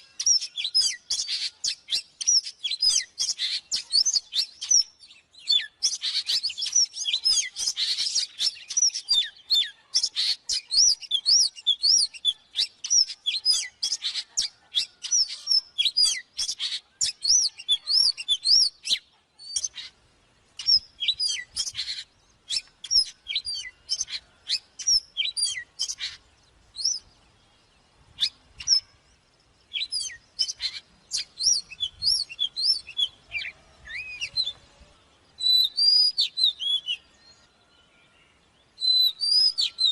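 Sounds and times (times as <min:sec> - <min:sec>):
bird singing whistled notes: 0:00.0 - 0:20.0, 0:20.6 - 0:39.9.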